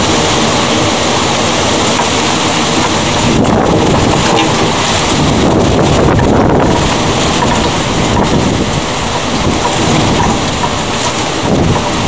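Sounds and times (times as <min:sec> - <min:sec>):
wind and rain rushing: 0:00.0 - 0:12.0
wind buffeting microphone: 0:00.0 - 0:12.0.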